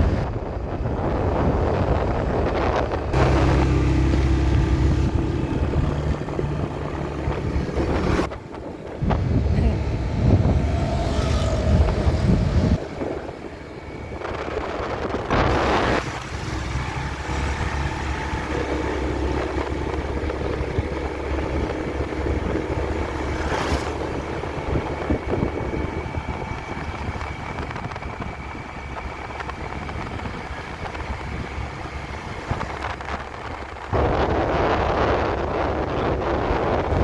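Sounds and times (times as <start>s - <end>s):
vehicle engines passing: 0.0s - 37.0s.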